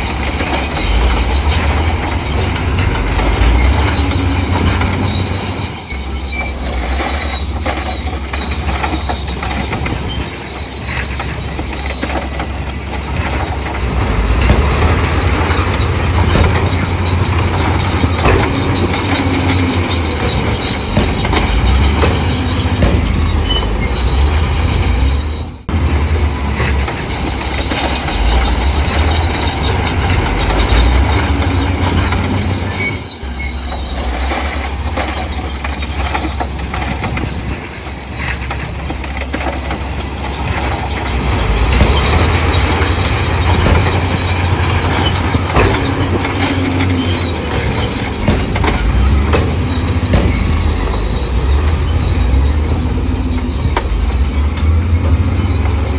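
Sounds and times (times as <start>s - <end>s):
heavy diesel engine under load: 0.0s - 55.9s
steel tracks clanking and squealing: 0.0s - 55.9s.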